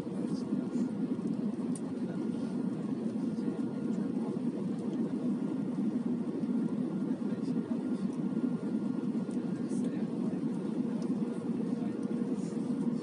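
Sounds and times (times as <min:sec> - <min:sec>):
airplane cabin drone: 0:00.0 - 0:13.0.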